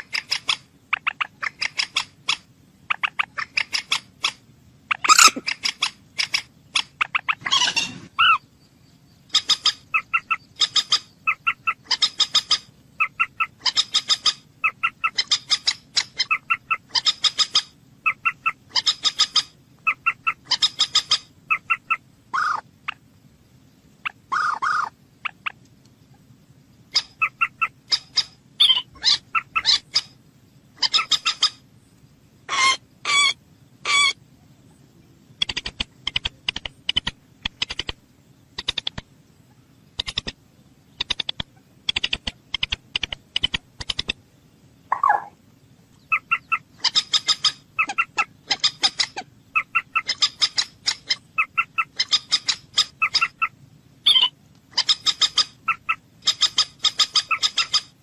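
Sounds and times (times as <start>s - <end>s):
moorhen clucking calls: 0.0s - 8.5s, 9.2s - 23.1s, 24.0s - 26.3s, 26.9s - 31.7s, 32.4s - 34.2s, 35.3s - 44.2s, 44.8s - 58.0s.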